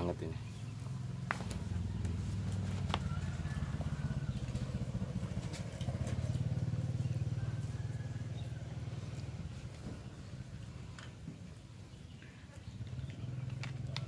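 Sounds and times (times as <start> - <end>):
engine pulsing hum: 0.1 - 14.0.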